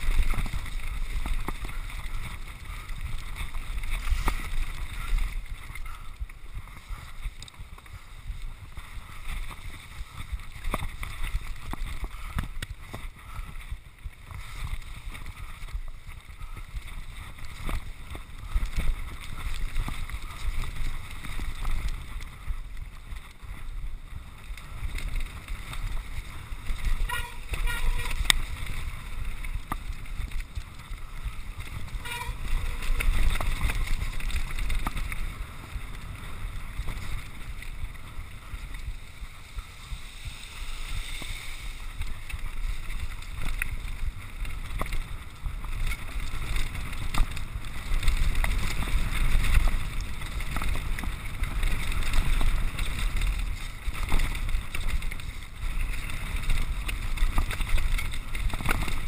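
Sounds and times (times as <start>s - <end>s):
bike rattling and knocking: 0.0s - 59.0s
wind rumble on microphone: 0.0s - 59.0s.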